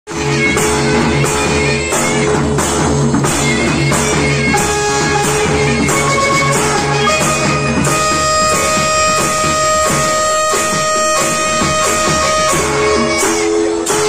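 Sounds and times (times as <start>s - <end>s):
instrumental folk music: 0.1s - 14.0s.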